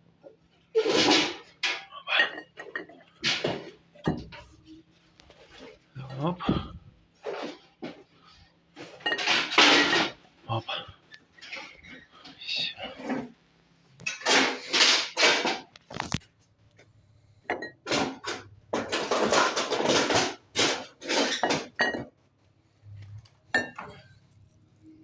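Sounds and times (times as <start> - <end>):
hard objects clattering and scraping: 0.5 - 16.4, 17.6 - 22.2.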